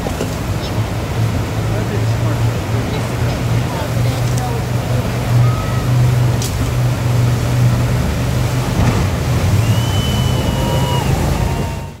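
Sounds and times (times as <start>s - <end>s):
boat engine droning: 0.0s - 12.0s
rushing water: 0.0s - 12.0s.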